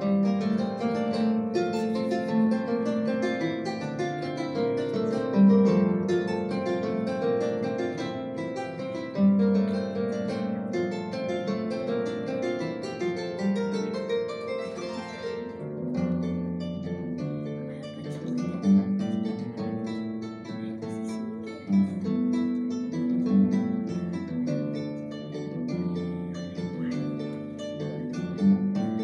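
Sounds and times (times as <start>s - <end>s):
harp glissando: 0.0s - 29.0s
harp plucked notes: 0.0s - 29.0s.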